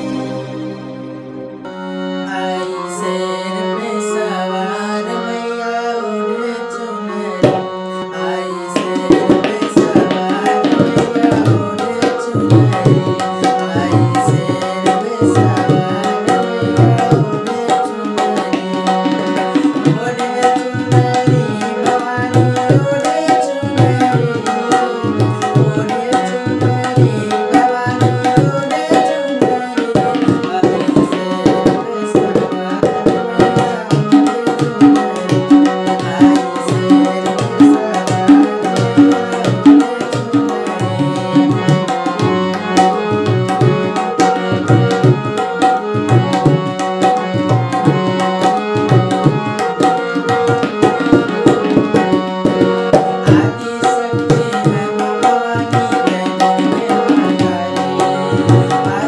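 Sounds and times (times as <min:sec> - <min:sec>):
harmonium melody: 0:00.0 - 0:59.0
tabla rhythmic beat: 0:00.0 - 0:59.0.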